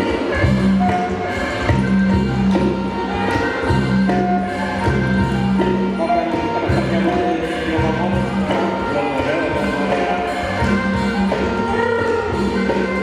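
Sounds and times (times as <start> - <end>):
traditional ensemble dance music: 0.0 - 13.0.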